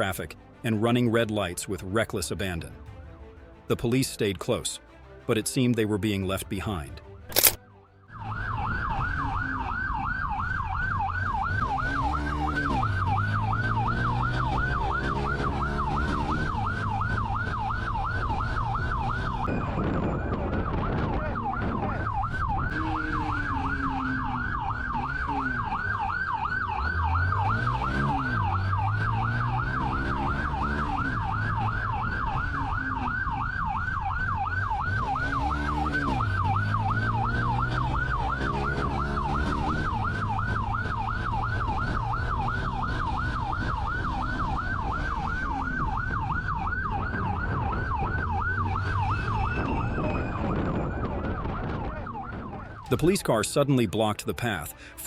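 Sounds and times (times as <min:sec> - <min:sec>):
vehicle engine revving: 0:08.1 - 0:53.1
police siren yelping: 0:08.1 - 0:53.6.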